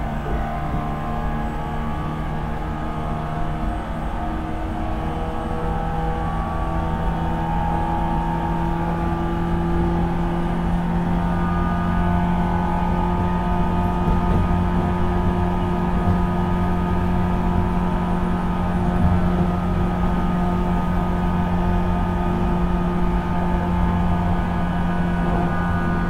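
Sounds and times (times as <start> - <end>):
rail rumble: 0.0 - 7.0, 9.6 - 26.0.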